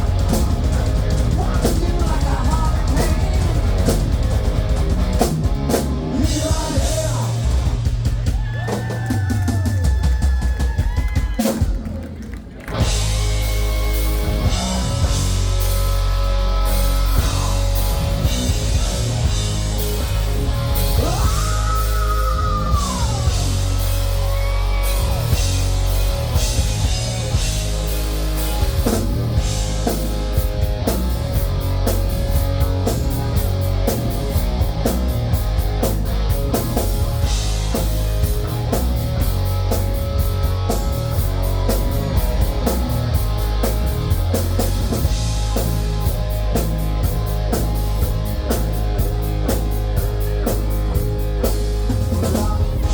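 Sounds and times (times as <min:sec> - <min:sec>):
electric guitar: 0:00.0 - 0:09.8, 0:11.0 - 0:52.9
drum kit: 0:00.0 - 0:52.9.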